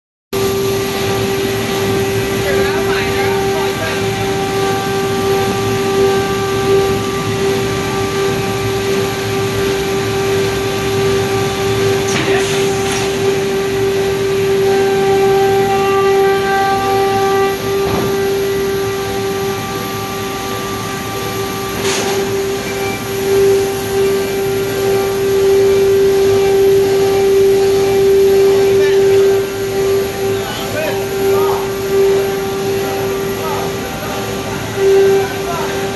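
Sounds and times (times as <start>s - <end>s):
faint machine whines: 0.4s - 35.9s
machine drone and hum: 0.4s - 35.9s.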